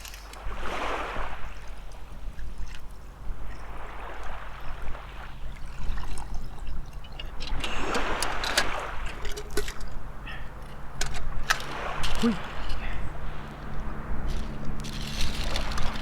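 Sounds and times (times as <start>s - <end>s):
water sloshing and trickling: 0.0s - 16.0s.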